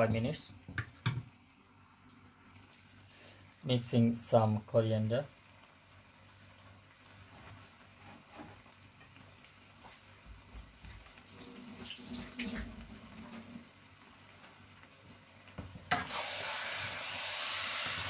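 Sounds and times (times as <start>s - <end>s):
curry bubbling and sizzling in a wok: 0.7s - 18.0s.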